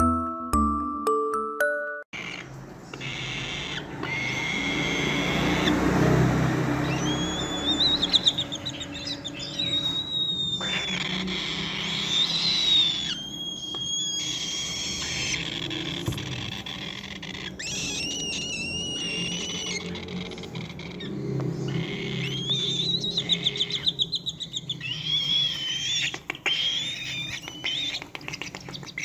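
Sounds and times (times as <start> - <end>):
cockatoo chicks calling: 2.1 - 29.0.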